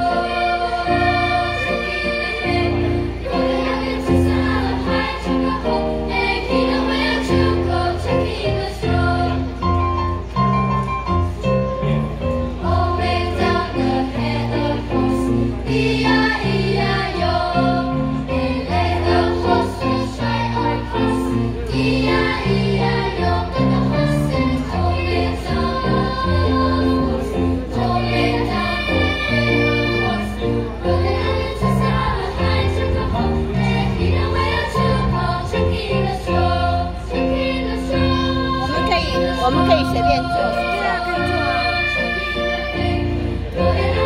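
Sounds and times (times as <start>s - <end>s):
children's choir singing: 0.0s - 44.0s
keyboard accompaniment: 0.0s - 44.0s.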